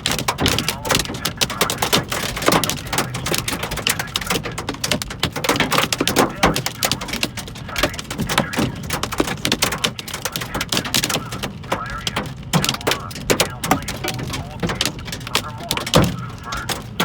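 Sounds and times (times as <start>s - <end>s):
hail clattering on car roof: 0.0s - 17.0s.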